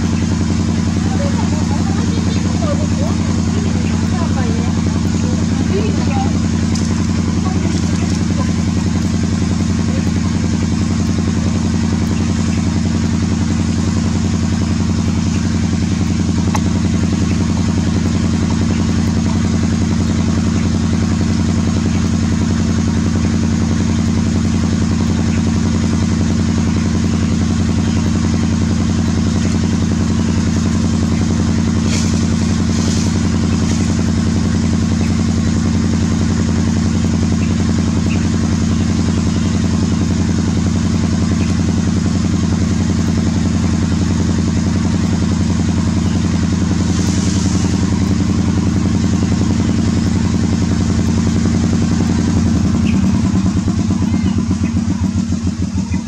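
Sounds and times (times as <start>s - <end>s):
low motor hum: 0.0s - 56.0s.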